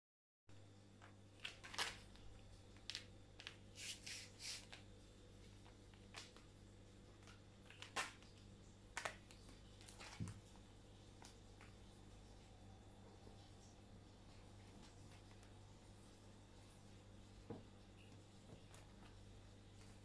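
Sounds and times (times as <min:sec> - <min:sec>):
faint low hum: 0:00.5 - 0:20.0.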